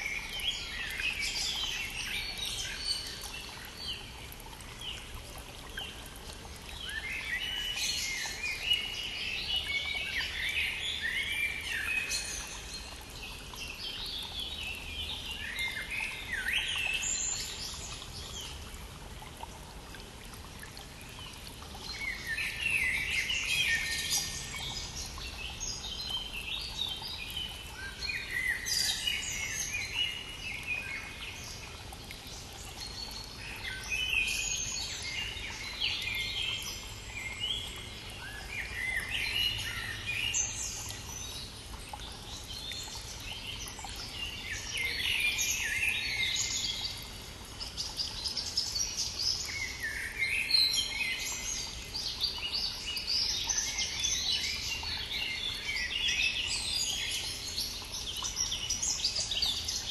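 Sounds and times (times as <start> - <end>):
songbirds singing: 0.0 - 19.3, 19.9 - 59.9.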